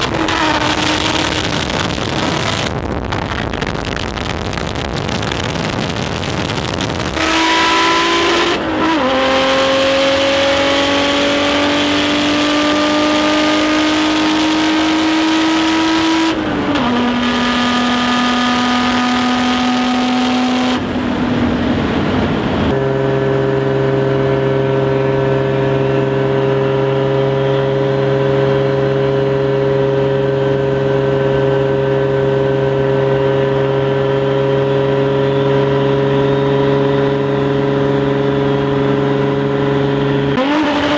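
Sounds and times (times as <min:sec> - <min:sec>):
car engine pulling hard: 0:00.0 - 0:40.9.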